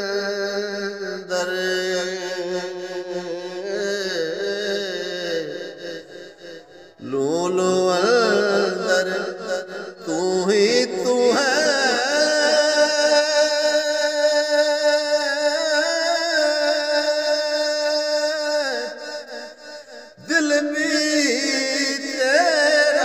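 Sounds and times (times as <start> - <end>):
man singing in chanting style: 0.0 - 23.0.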